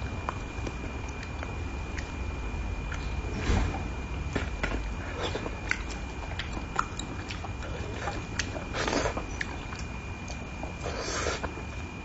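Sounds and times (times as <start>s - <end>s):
wet chewing and lip-smacking: 0.1s - 2.2s, 2.9s - 3.2s, 4.3s - 12.0s.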